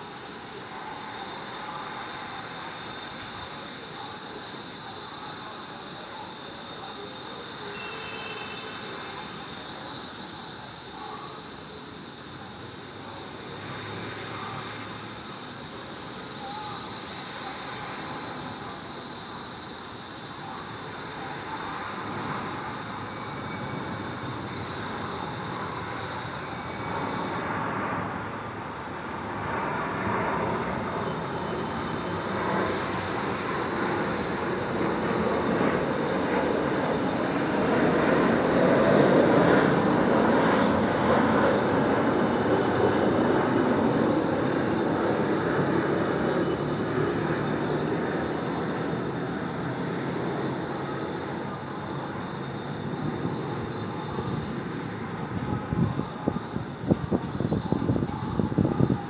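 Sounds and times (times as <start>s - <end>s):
city ambience: 0.0s - 59.0s.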